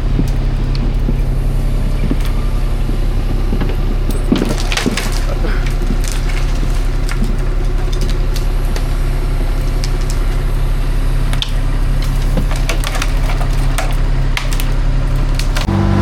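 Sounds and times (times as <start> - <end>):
wood splintering cracks: 0.0 - 15.8
low engine drone: 0.0 - 16.0.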